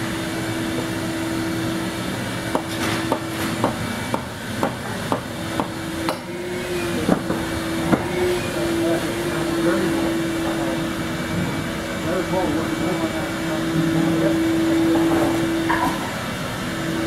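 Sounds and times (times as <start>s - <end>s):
shop machinery hum: 0.0s - 17.0s.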